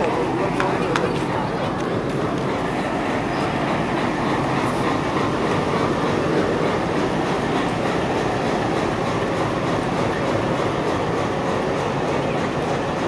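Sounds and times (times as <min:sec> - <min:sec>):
diesel locomotive passing: 0:00.0 - 0:13.0.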